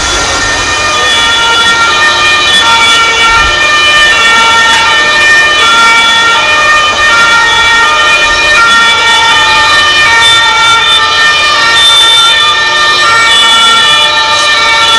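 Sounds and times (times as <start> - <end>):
two-tone emergency siren: 0.0 - 14.9.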